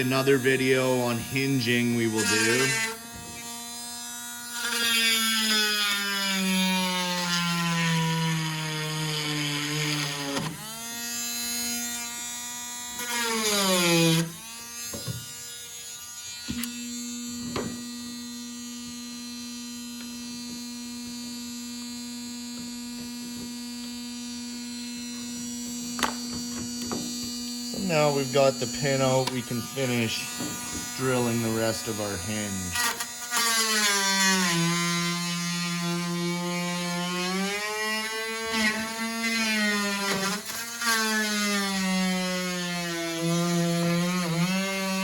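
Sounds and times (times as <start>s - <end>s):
small electric drill running: 0.0s - 45.0s.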